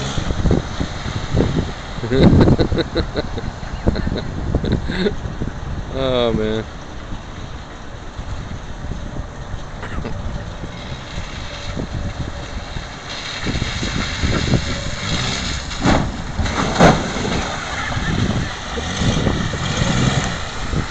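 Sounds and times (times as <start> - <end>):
van driving through slush: 0.0 - 20.9.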